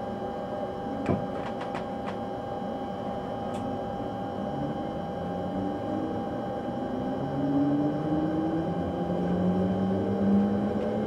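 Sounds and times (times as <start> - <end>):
electrical hum with whine: 0.0 - 11.0.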